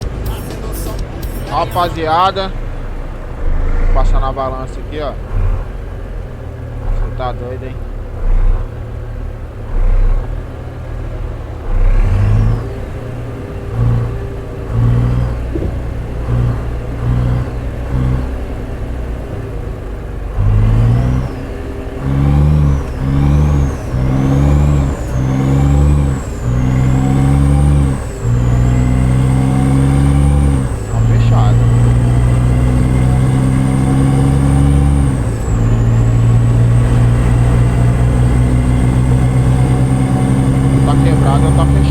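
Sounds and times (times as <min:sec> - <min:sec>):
diesel truck engine revving: 0:00.0 - 0:41.9.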